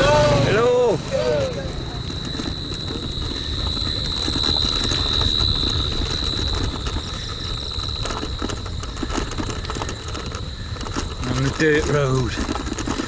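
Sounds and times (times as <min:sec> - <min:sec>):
high-pitched insect drone: 0:00.6 - 0:13.0
wind rumble on microphone: 0:02.0 - 0:13.0.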